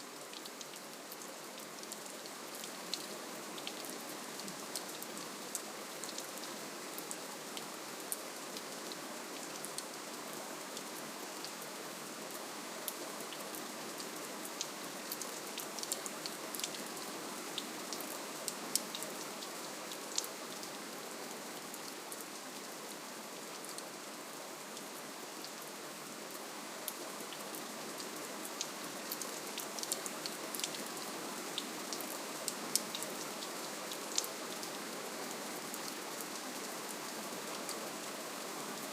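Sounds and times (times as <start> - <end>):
gentle rain hiss: 0.0 - 38.9.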